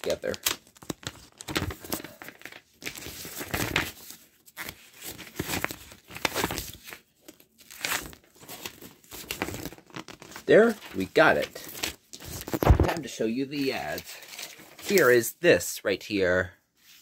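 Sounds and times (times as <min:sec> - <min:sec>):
paper crinkling and tearing: 0:00.0 - 0:15.2.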